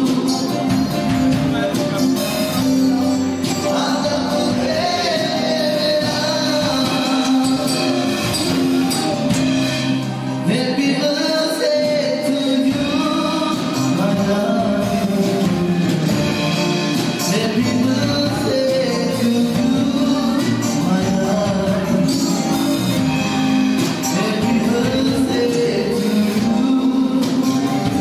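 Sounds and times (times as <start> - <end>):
person singing: 0.0 - 9.4, 10.1 - 28.0
live band playing: 0.0 - 28.0.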